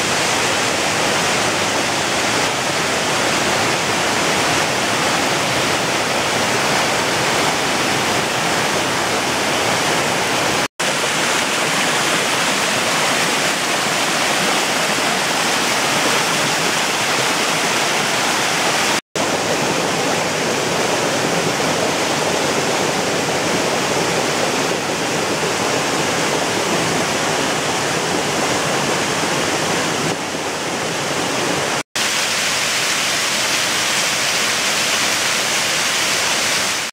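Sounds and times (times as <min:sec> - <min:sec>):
waterfall rushing over rocks: 0:00.0 - 0:36.9.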